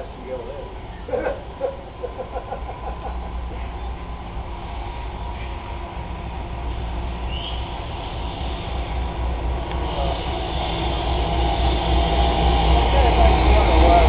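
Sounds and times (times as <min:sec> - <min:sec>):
diesel locomotive engines humming: 0:00.0 - 0:14.0.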